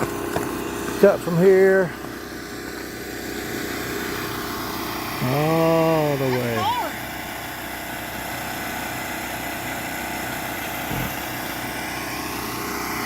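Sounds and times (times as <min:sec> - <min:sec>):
concrete saw cutting: 0:00.0 - 0:13.0.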